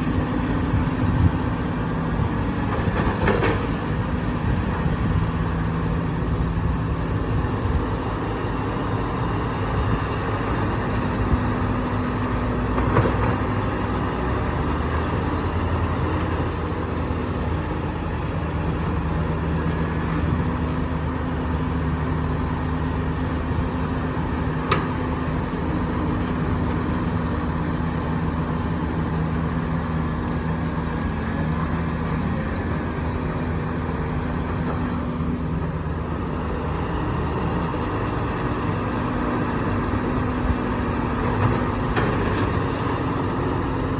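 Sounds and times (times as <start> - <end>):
diesel machinery rumbling: 0.0 - 43.9.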